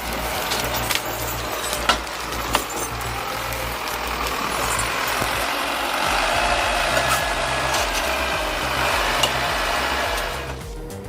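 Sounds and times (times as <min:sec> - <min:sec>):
heavy machine engine running: 0:00.0 - 0:11.0.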